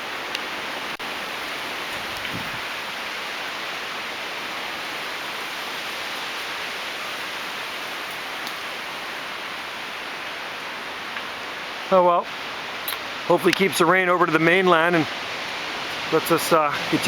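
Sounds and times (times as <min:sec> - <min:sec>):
storm wind through trees: 0:00.0 - 0:17.0.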